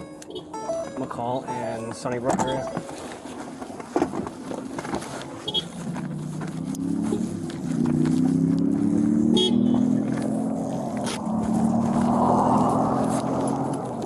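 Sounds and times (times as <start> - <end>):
vehicle droning: 0.0 - 14.0.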